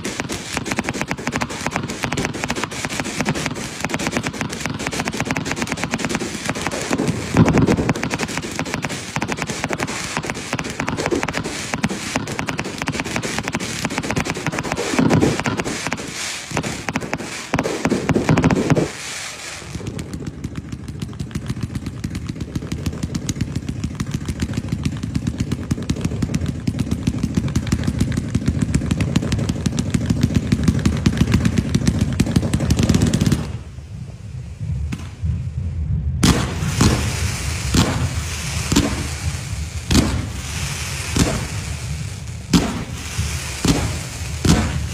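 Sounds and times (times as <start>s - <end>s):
rapid dull firework pops: 0.0s - 33.8s, 34.6s - 44.9s
fireworks bangs and crackling: 0.0s - 44.9s
sharp firework bangs: 0.0s - 44.9s.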